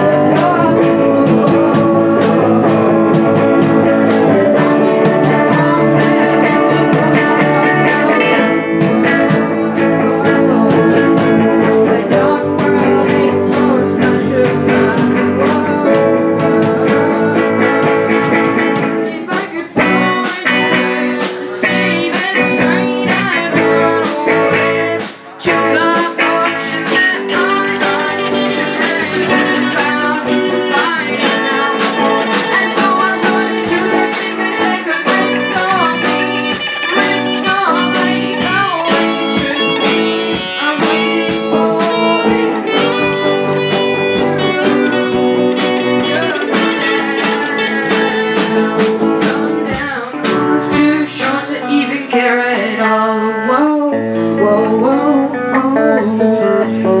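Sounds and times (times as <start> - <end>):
steady drum beat: 0.0 - 51.4
electric guitar: 0.0 - 57.0
rock band playing: 0.0 - 57.0.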